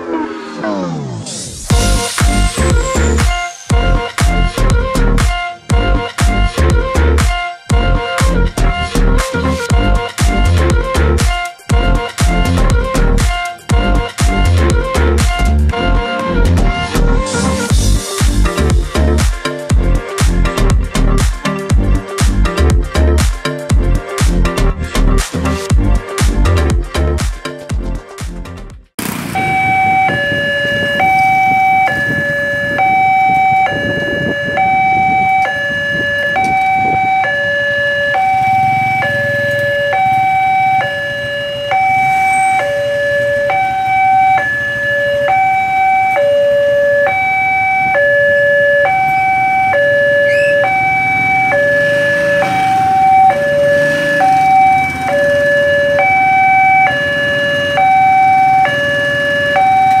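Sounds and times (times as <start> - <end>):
two-tone crossing alarm: 0.0 - 21.7, 29.0 - 60.0.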